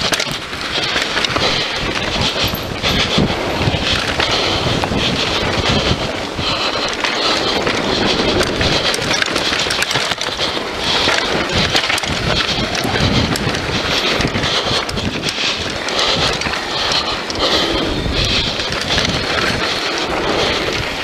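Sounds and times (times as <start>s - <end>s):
bike chain and frame rattling: 0.0s - 21.0s
tyres rolling on loose dirt: 0.0s - 21.0s
wind rushing over microphone: 0.0s - 21.0s.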